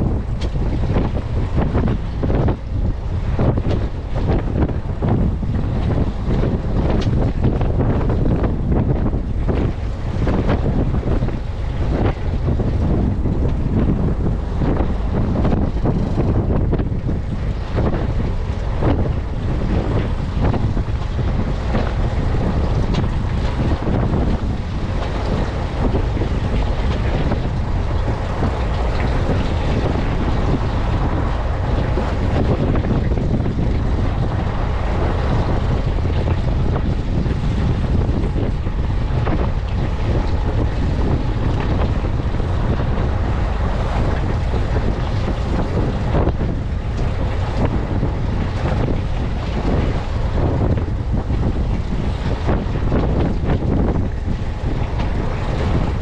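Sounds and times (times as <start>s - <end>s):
boat and water rumble: 0.0s - 56.0s
wind buffeting microphone: 0.0s - 56.0s.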